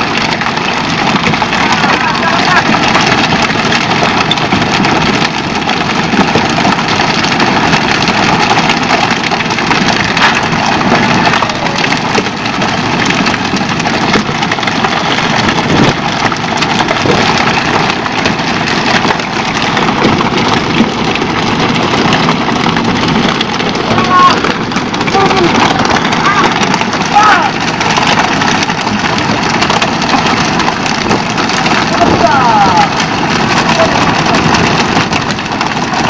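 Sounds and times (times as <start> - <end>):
boat engine running: 0.0 - 36.0.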